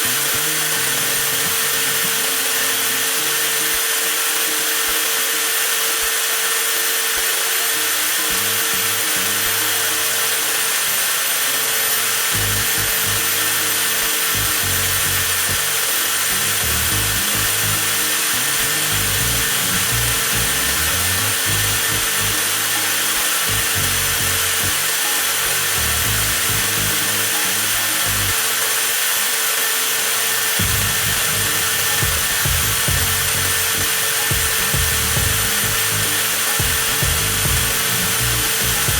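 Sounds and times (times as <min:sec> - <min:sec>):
angle grinder whining: 0:00.0 - 0:38.9.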